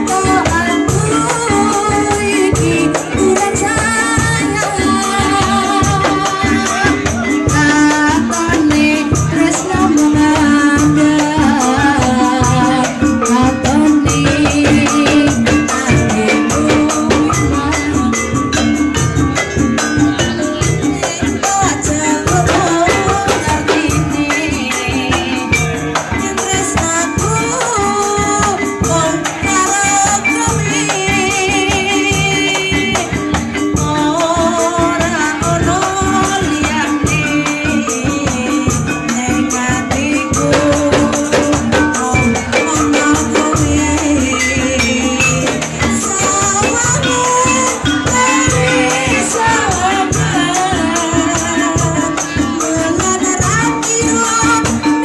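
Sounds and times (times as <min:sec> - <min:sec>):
drum strokes: 0:00.0 - 0:55.0
jingle percussion: 0:00.0 - 0:55.0
person singing: 0:00.0 - 0:55.0
wavering melody line: 0:00.0 - 0:55.0.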